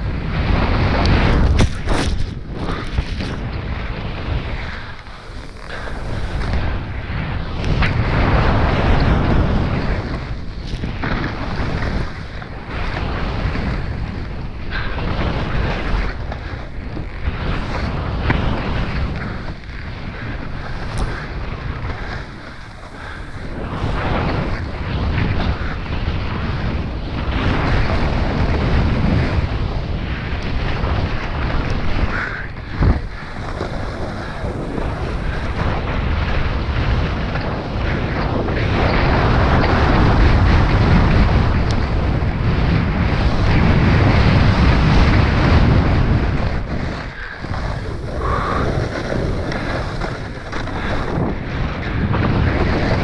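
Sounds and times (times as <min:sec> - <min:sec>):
snowboard carving through snow: 0:00.0 - 0:53.0
wind rushing over microphone: 0:00.0 - 0:53.0.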